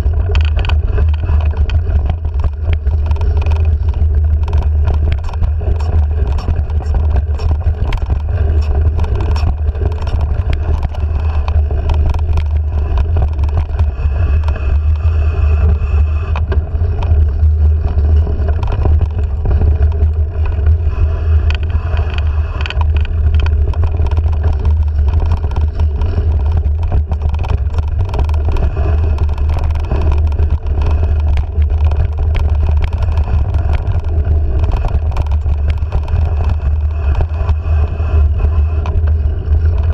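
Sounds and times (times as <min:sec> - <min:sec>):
bike clicks and rattles: 0:00.0 - 0:39.9
wind and trail rumble: 0:00.0 - 0:39.9.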